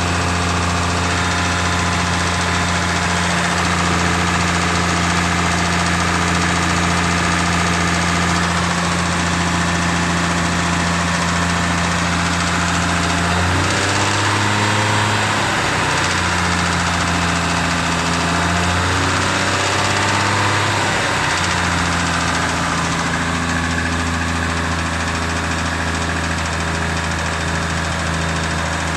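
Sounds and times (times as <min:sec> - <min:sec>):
car engine idling and revving: 0:00.0 - 0:28.9
engine rattle: 0:00.0 - 0:28.9.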